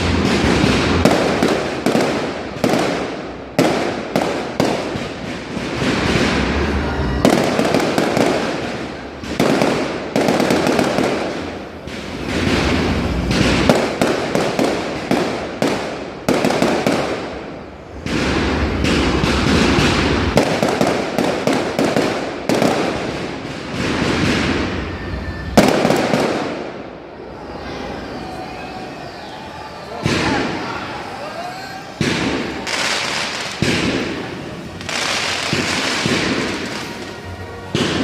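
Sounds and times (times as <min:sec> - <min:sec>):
fireworks bursting with loud bangs: 0:00.0 - 0:38.0
fireworks crackling: 0:00.0 - 0:38.0.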